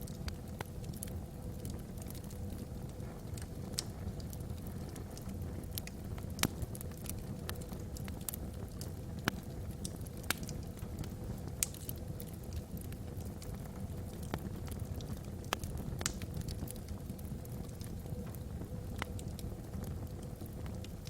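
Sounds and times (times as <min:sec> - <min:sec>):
logs crackling and popping: 0:00.0 - 0:21.0
low rumble of fire: 0:00.0 - 0:21.0.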